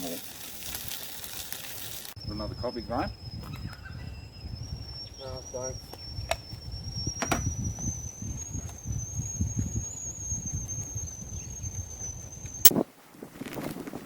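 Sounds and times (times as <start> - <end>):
thin high whistle: 0.0 - 12.8
low crackling rumble of fire: 0.0 - 14.0.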